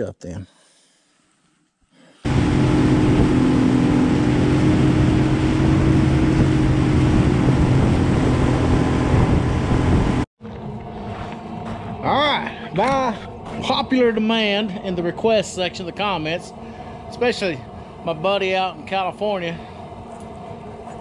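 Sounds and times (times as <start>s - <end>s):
boat motor running at speed: 2.2s - 21.0s.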